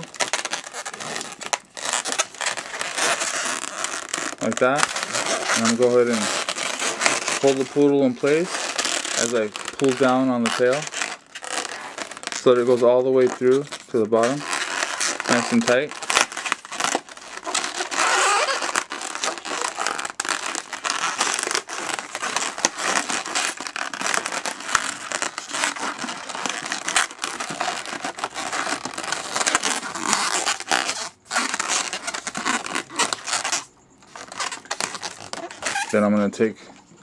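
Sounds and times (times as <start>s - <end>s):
balloons rubbing and squeaking: 0.0s - 37.0s.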